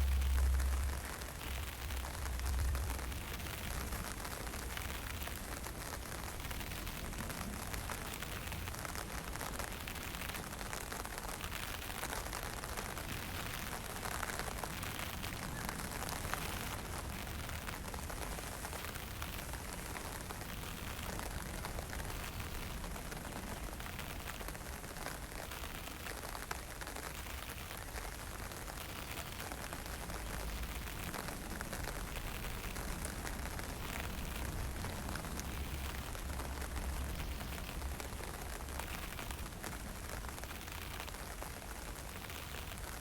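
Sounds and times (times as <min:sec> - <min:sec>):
steady wind: 0:00.0 - 0:43.0.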